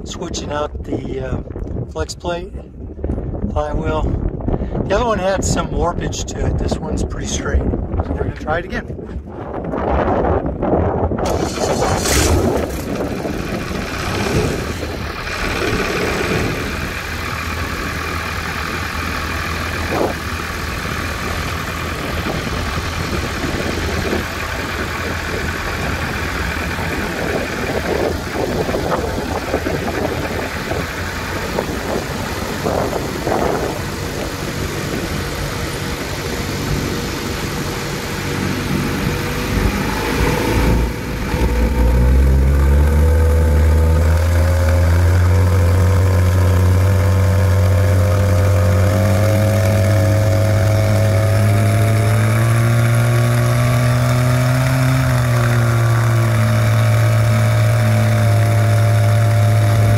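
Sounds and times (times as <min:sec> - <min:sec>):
aircraft engine and propeller running: 0:04.2 - 0:59.9.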